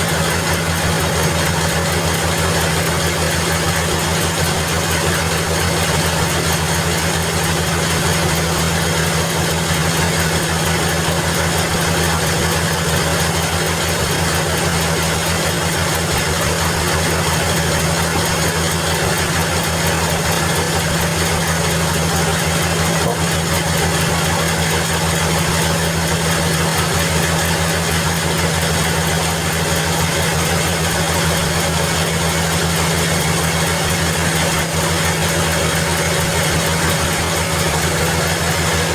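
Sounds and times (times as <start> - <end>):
band saw droning: 0.0 - 38.9.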